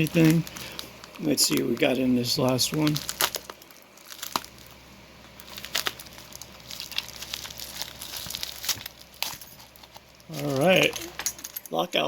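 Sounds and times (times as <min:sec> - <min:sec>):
packaging crinkling and tearing: 0:00.0 - 0:11.2.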